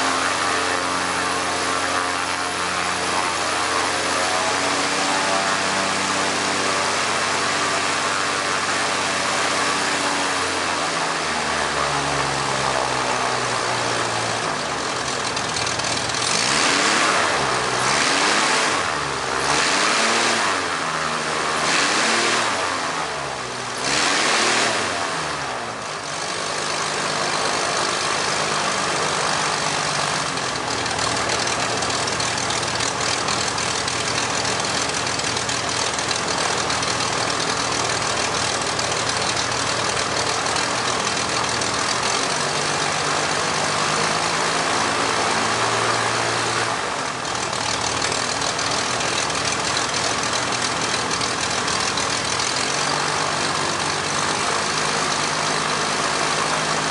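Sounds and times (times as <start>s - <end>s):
biplane engine running: 0.0s - 56.9s.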